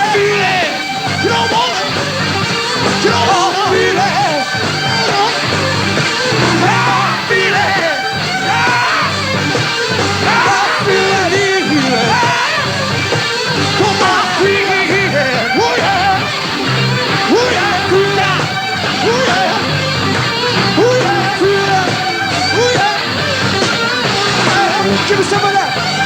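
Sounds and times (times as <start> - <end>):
rock music with singing: 0.0 - 26.0.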